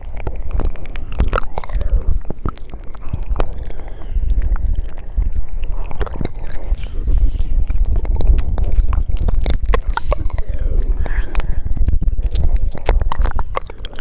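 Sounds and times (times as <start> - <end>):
steady low rumble: 0.0 - 14.0
wet mouth clicks and smacks: 0.0 - 14.0.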